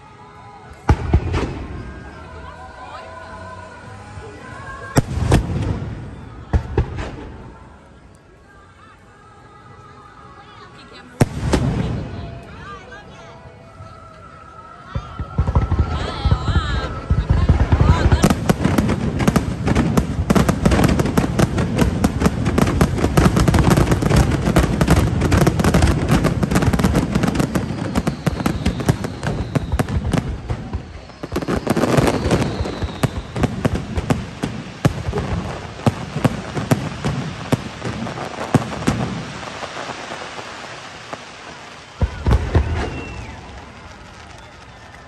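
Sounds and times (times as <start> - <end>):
fireworks crackling and booming: 0.0 - 45.0
fireworks falling whistles: 0.0 - 45.0.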